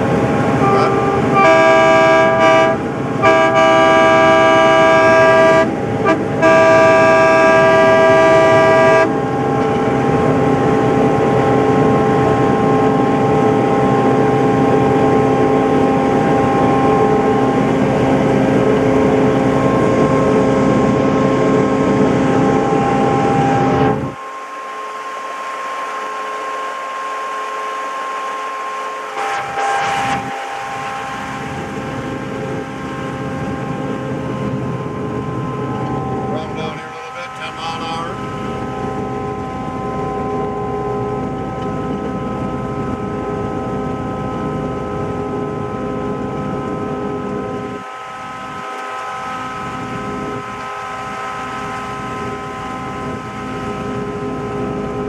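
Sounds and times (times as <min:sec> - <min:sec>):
locomotive horn blasts: 0:00.0 - 0:43.2, 0:45.9 - 0:55.0
locomotive running on track: 0:00.0 - 0:55.0.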